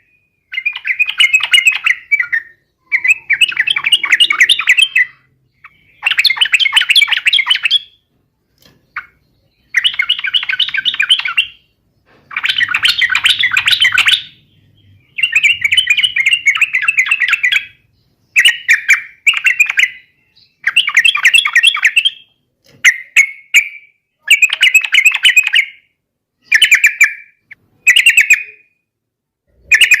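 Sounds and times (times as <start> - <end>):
bird singing chattering phrases: 0.0 - 8.0, 8.7 - 25.8.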